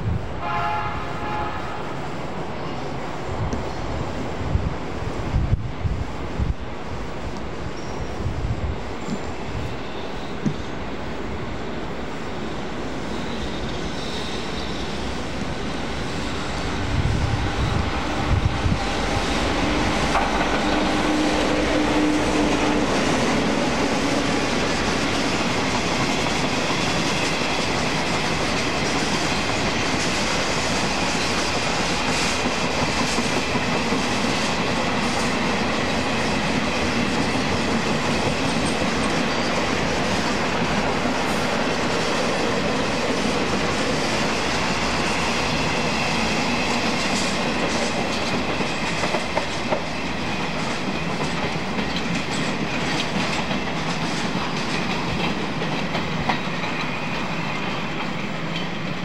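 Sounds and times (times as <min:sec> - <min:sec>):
electric locomotive hum: 0:00.0 - 0:59.0
freight train rolling past: 0:00.0 - 0:59.0.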